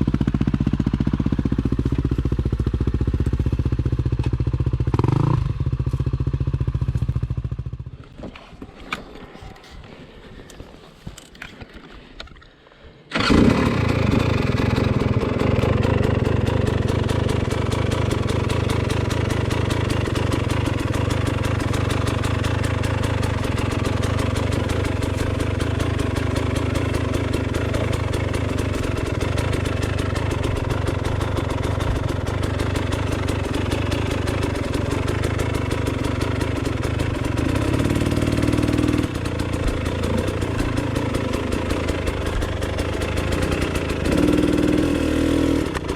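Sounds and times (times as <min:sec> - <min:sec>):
dirt bike engine idling: 0:00.0 - 0:11.6, 0:13.1 - 0:45.9.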